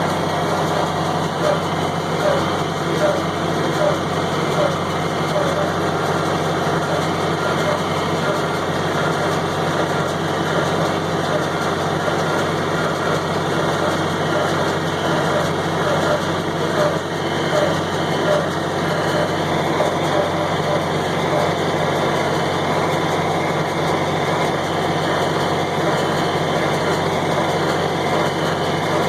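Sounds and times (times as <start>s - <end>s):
hay baler baling: 0.0s - 29.0s
tractor running steadily: 0.0s - 29.0s.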